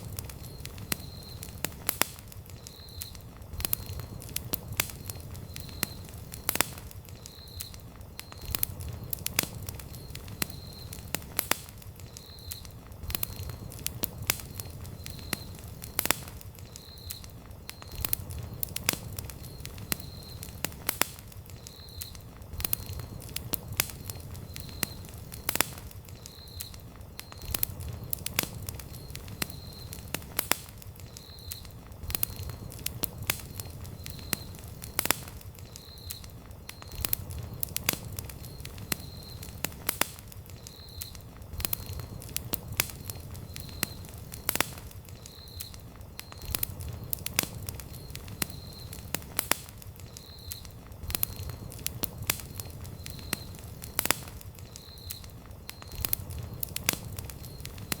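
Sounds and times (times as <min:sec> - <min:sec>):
campfire crackling and popping: 0:00.0 - 0:58.0
low rumble of flame: 0:00.0 - 0:58.0.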